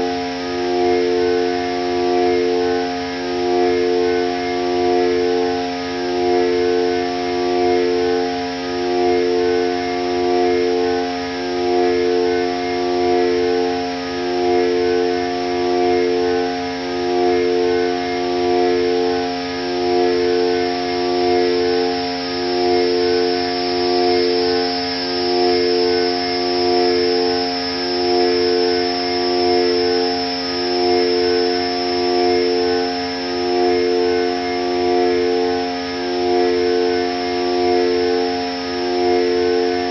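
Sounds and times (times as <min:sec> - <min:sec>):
ambient synthesizer drone: 0:00.0 - 0:39.9.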